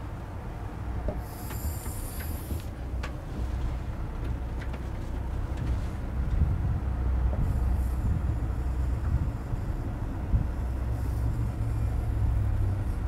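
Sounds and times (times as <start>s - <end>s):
low room noise rumble: 0.0s - 13.0s.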